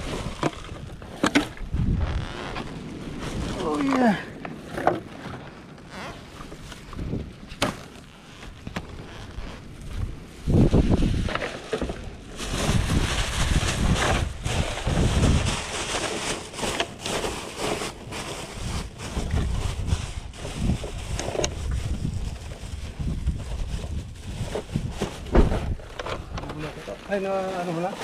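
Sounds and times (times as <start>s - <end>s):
wind buffeting microphone: 0.0s - 5.2s, 6.5s - 7.6s, 8.6s - 16.0s, 18.4s - 27.2s.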